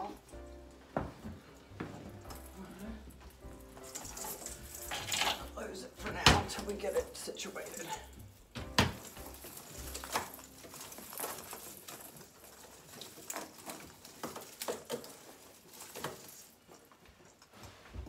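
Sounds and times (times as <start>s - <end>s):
rustling and clicking of garland: 0.0s - 18.0s.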